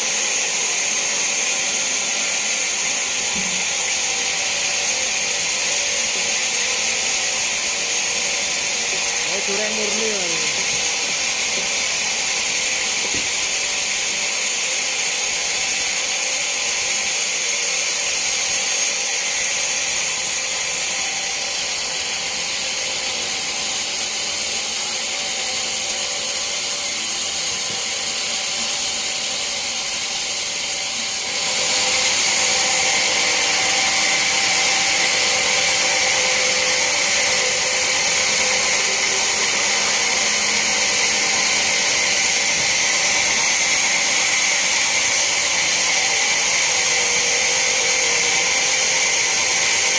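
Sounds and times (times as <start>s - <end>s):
bandsaw cutting log: 0.0s - 49.9s.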